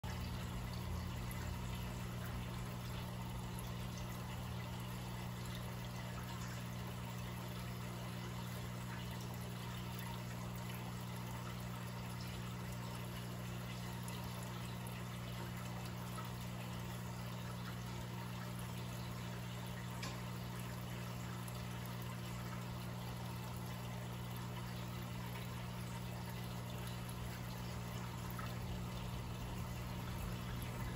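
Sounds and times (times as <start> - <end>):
low pump hum: 0.0 - 30.9
water trickling and bubbling: 0.0 - 30.9.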